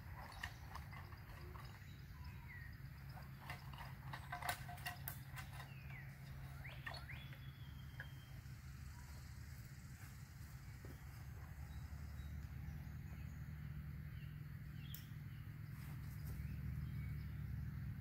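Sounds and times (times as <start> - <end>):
bird chirps: 0.0 - 4.2, 4.8 - 17.9.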